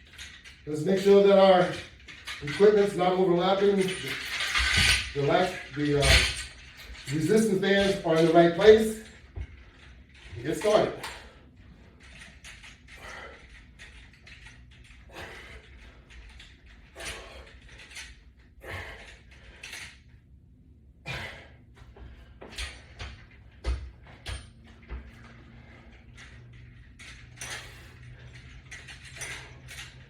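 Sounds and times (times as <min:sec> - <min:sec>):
resistance bands creaking and clicking: 0:00.0 - 0:20.2, 0:22.0 - 0:30.0.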